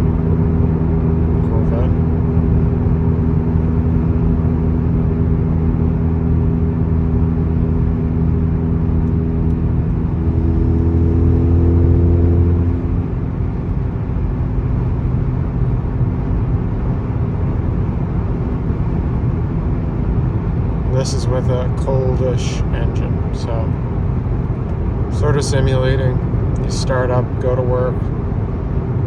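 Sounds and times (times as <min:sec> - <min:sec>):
exhaust drone in car cabin: 0:00.0 - 0:29.0
road noise: 0:00.0 - 0:29.0.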